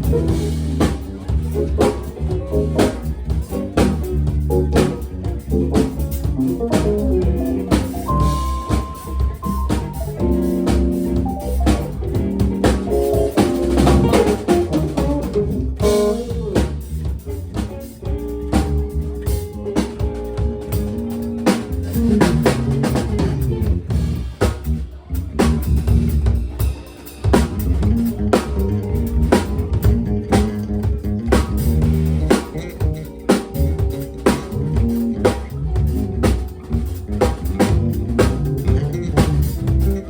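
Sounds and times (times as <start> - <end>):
bass guitar: 0.0 - 40.0
drum kit: 0.0 - 40.0
guitar: 0.0 - 40.0.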